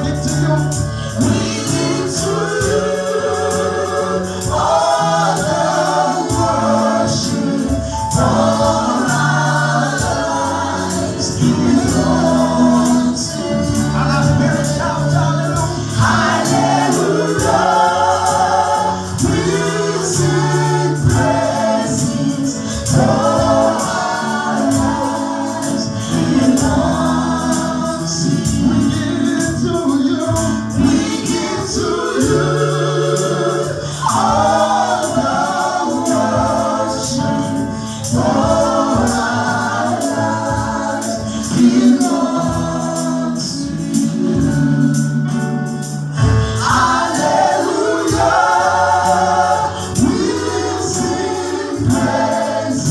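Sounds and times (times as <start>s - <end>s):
choir singing gospel: 0.0s - 52.9s
rapid percussion: 0.0s - 52.9s
tambourine: 0.0s - 52.9s.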